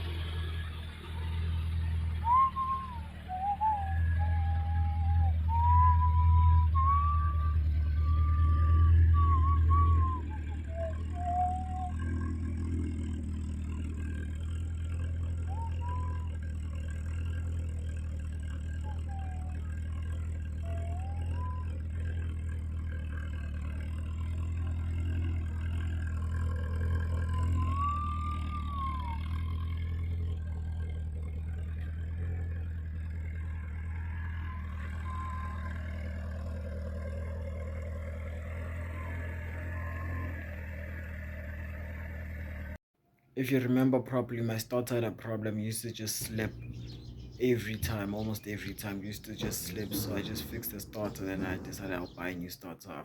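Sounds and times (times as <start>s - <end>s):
car engine idling: 0.0s - 42.8s, 44.1s - 53.0s.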